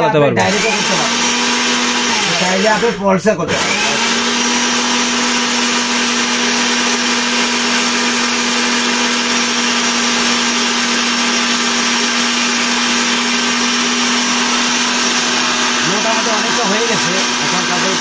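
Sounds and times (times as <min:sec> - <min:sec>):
blender grinding seeds: 0:00.4 - 0:18.0.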